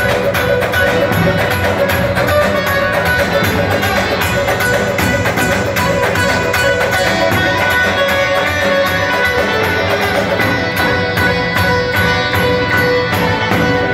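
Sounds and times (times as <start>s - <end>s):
plucked lute melody: 0.0s - 13.9s.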